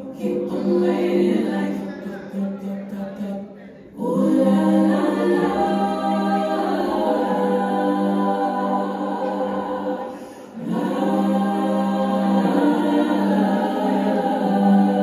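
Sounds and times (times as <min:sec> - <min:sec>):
choir-like voices holding chords: 0:00.0 - 0:15.0.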